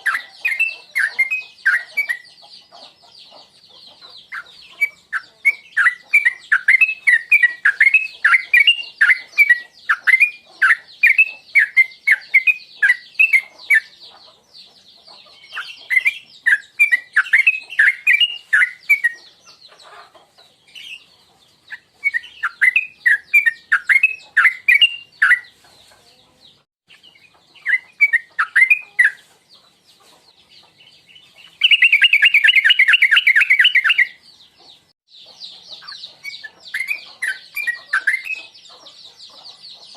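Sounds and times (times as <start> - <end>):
bird chirping and trilling: 0.0 - 26.3, 26.9 - 39.9.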